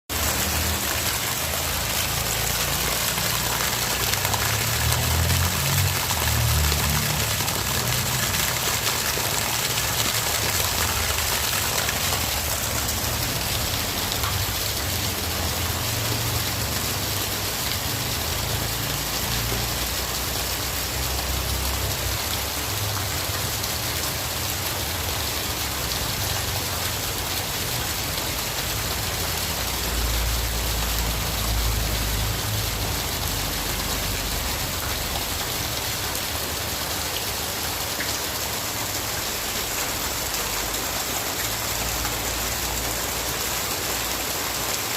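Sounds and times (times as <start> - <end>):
heavy rain hissing: 0.1 - 44.9.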